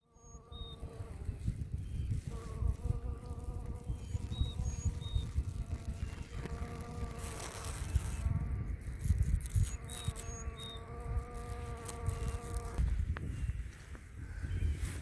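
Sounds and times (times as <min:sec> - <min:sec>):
insect buzzing: 0:00.0 - 0:13.6.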